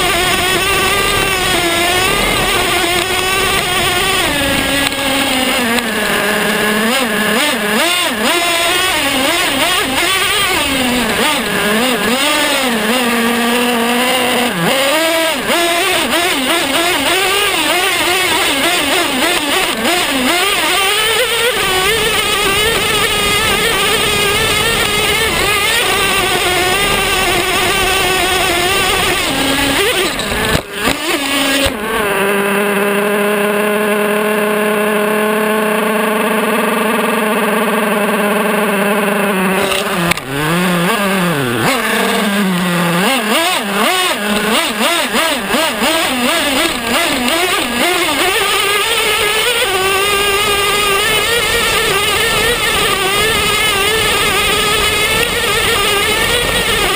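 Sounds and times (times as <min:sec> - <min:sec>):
rc truck engine revving: 0:00.0 - 0:56.9.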